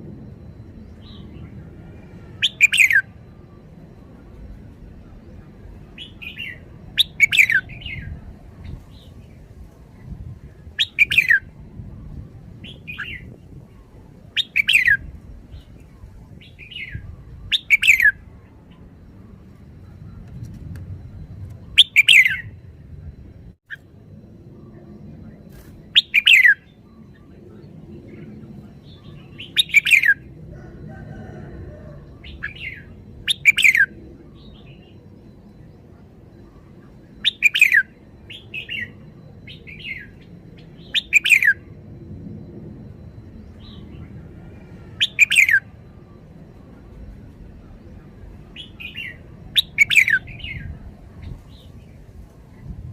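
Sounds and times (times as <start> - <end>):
bird singing downward phrases: 0.0 - 52.8.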